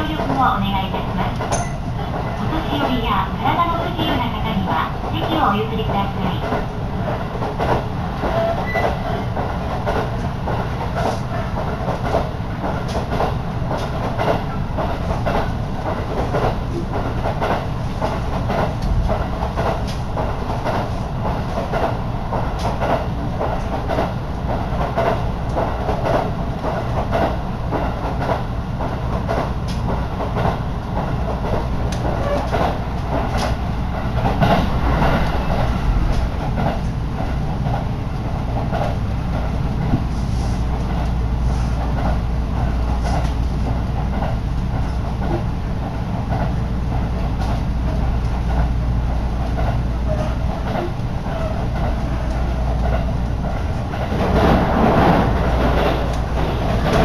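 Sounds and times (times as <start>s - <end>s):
rail joint clicks: 0.0s - 57.0s
wheels rumbling on rail: 0.0s - 57.0s.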